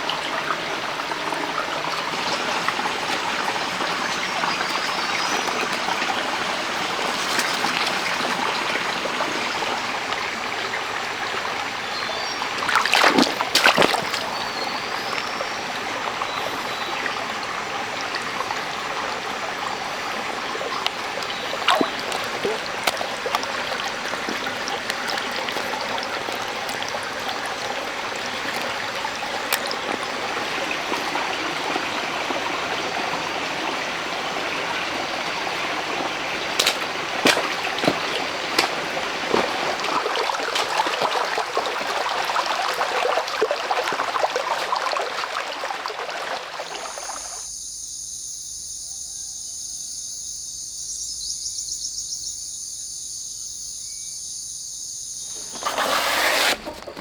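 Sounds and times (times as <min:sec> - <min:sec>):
water splashing: 0:00.0 - 0:47.4, 0:55.4 - 0:57.0
stream water running: 0:00.0 - 0:47.7, 0:55.1 - 0:57.0.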